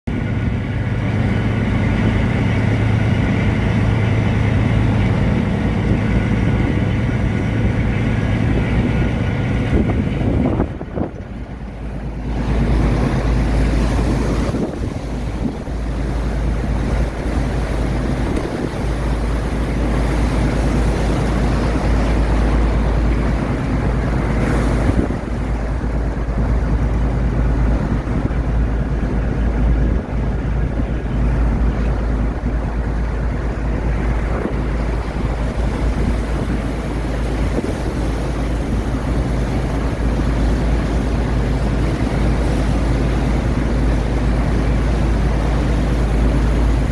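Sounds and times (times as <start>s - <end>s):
boat engine running: 0.0s - 46.9s
water rushing: 0.1s - 46.9s
wind buffeting microphone: 0.1s - 46.9s.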